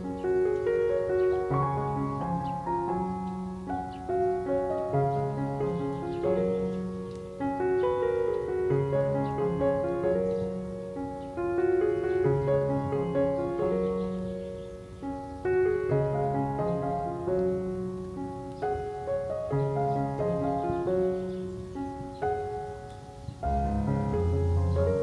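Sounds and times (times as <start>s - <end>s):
soft slow piano music: 0.0s - 25.0s.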